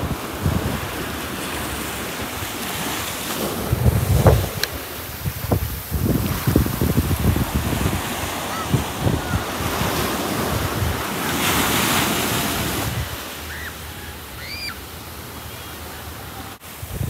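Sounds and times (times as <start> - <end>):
wind buffeting microphone: 0.0 - 13.3, 16.6 - 17.0
ocean surf washing onto sand: 0.0 - 17.0.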